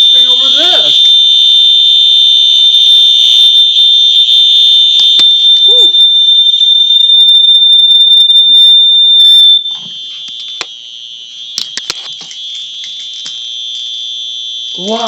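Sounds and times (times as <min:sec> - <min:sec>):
high-pitched alarm: 0:00.0 - 0:15.0
loud piercing fire alarm: 0:00.0 - 0:15.0.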